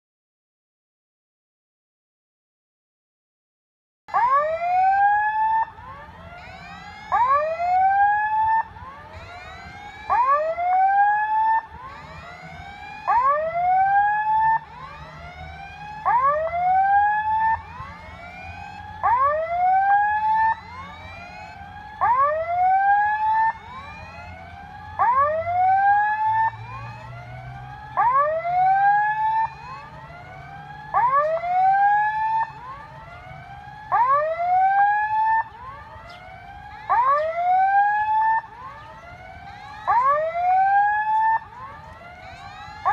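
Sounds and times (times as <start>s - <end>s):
level-crossing warning signal: 5.9s - 42.9s.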